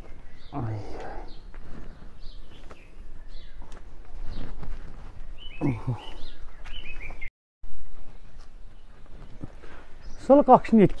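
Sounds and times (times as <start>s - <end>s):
small birds chirping: 0.0s - 7.3s, 8.1s - 11.0s
outdoor background noise: 0.0s - 11.0s.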